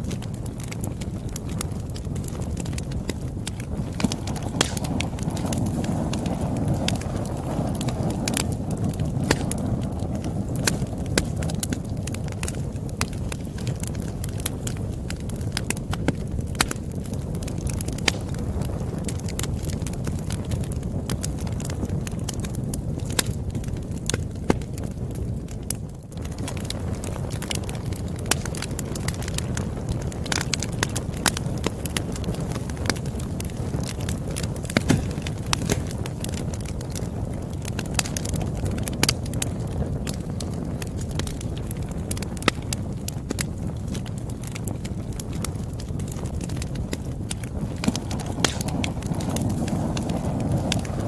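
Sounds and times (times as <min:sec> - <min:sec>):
low rumble of flames: 0:00.0 - 0:51.0
wood fire crackling and popping: 0:00.0 - 0:51.0.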